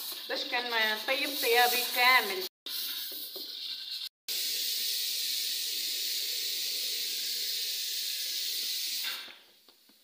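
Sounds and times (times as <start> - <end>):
steady hiss: 1.0 - 10.0.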